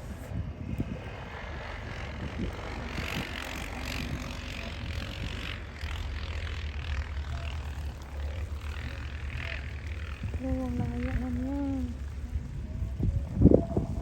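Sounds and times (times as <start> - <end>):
distant atv engine droning: 0.0 - 14.0.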